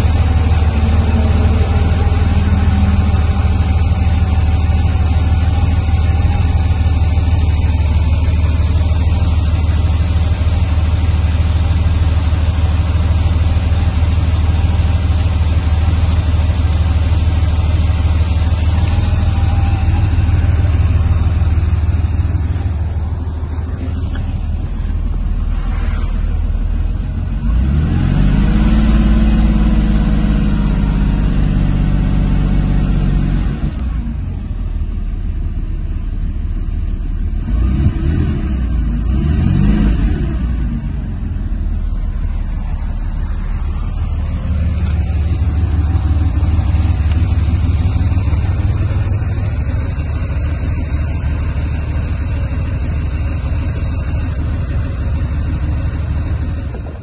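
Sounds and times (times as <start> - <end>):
car engine revving and idling: 0.0 - 57.0.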